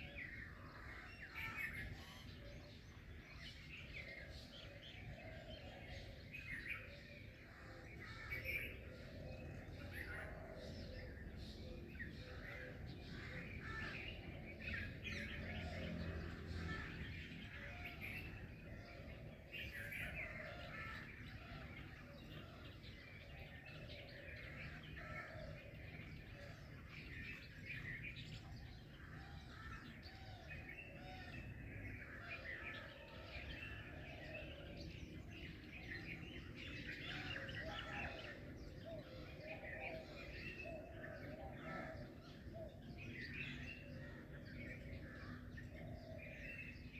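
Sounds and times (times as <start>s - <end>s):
songbirds chirping and singing: 0.0s - 46.9s.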